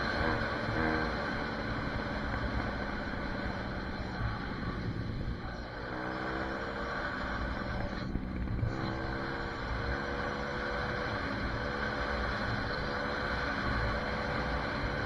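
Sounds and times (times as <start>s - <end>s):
pit bike engine accelerating: 0.0s - 15.0s.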